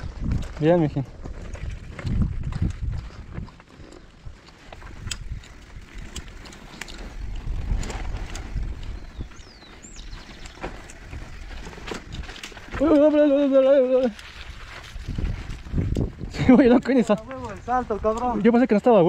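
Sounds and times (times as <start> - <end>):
bike chain and frame rattling: 0.0 - 19.0
tyres rolling over rough ground: 0.0 - 19.0.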